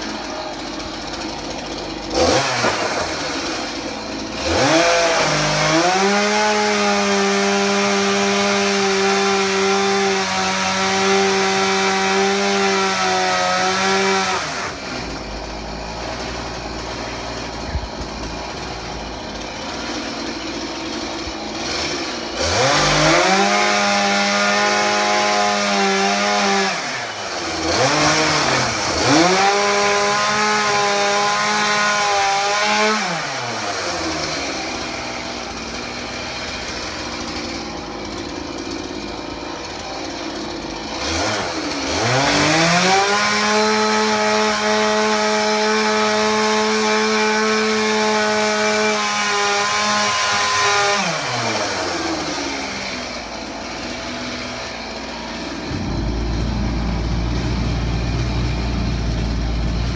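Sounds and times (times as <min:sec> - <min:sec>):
chainsaw revving and idling: 0:00.0 - 0:59.9.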